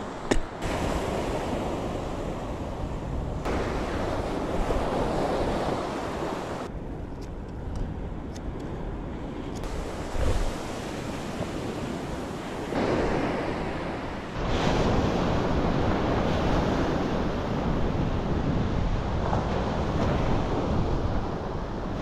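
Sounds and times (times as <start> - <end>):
surf breaking on beach: 0.0 - 6.7, 9.7 - 22.0
wind buffeting microphone: 0.0 - 22.0.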